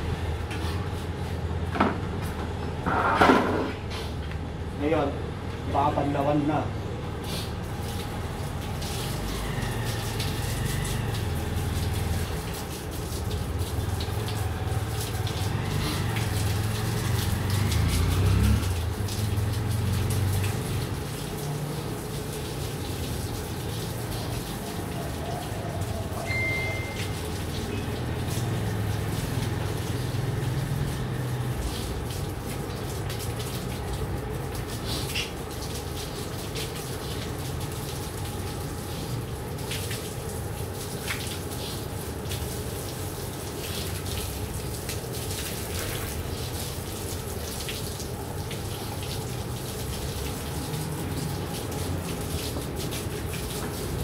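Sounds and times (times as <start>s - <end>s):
garden hose spraying water: 3.8s - 54.0s.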